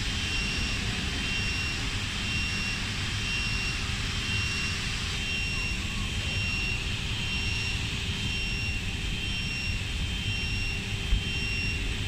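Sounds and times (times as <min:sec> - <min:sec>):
conveyor line humming: 0:00.0 - 0:12.0
electronic warning beep: 0:00.1 - 0:12.0.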